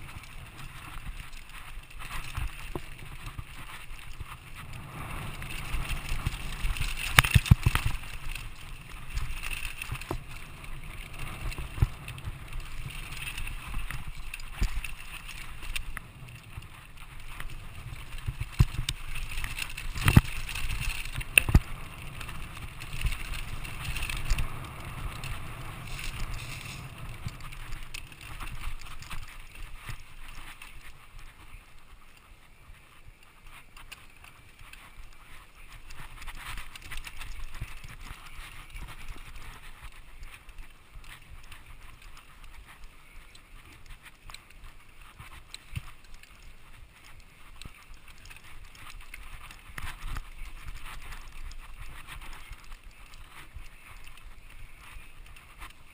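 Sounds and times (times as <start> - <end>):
bike rattles and knocks: 0.0 - 31.9, 33.5 - 55.9
bike tyres rumbling over dirt: 0.0 - 55.9.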